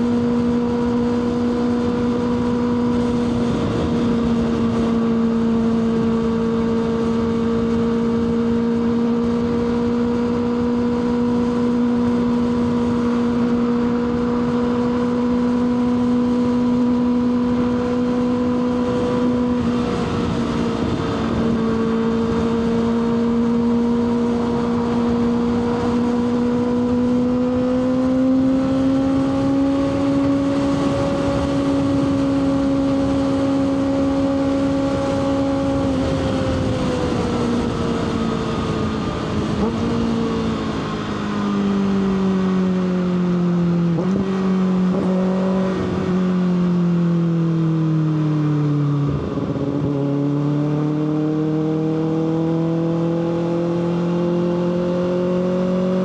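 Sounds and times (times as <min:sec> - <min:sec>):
wind noise: 0:00.0 - 0:48.0, 0:48.6 - 0:56.0
motorcycle engine revving: 0:00.0 - 0:56.0.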